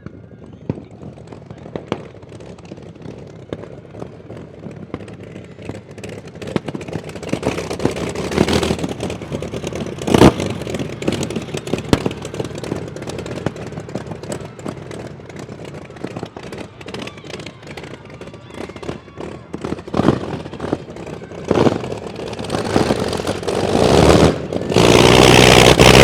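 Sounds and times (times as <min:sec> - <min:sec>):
engine with crackling exhaust: 0:00.0 - 0:26.0.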